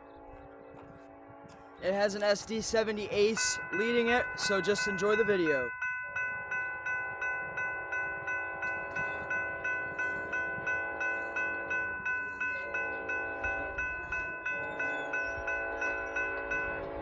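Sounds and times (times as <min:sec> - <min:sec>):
crossing warning bell ringing: 0:01.8 - 0:17.0.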